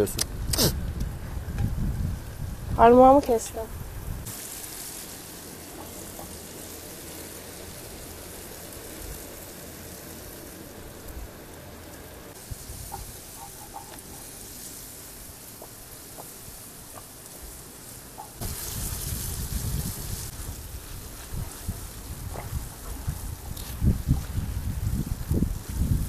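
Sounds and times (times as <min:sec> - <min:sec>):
tomatoes sizzling in a frying pan: 0:01.4 - 0:26.0.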